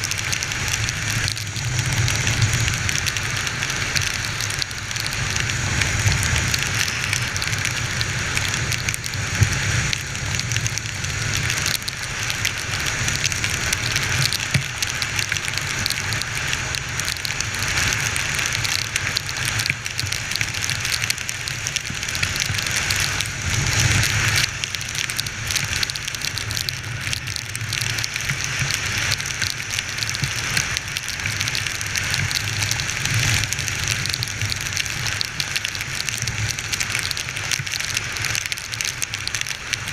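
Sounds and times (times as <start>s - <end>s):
heavy rain spattering on camera: 0.0s - 39.9s.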